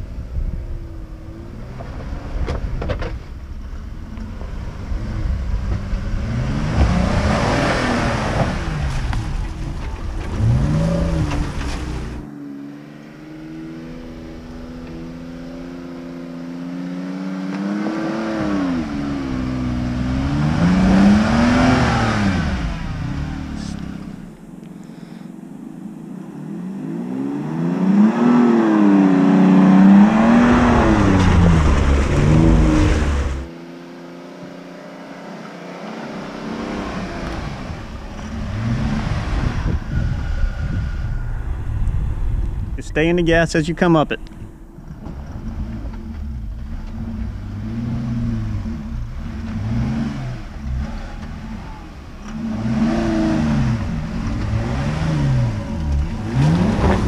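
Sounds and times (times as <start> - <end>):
suv engine revving: 0.0 - 57.0.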